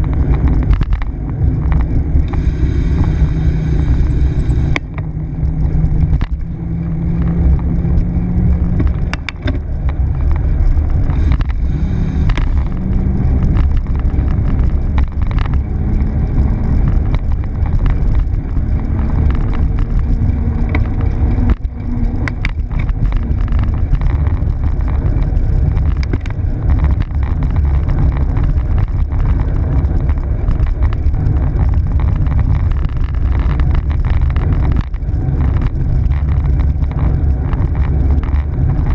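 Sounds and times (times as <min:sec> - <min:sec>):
bicycle tyre and road noise: 0:00.0 - 0:38.9
wind rumbling on microphone: 0:00.0 - 0:38.9.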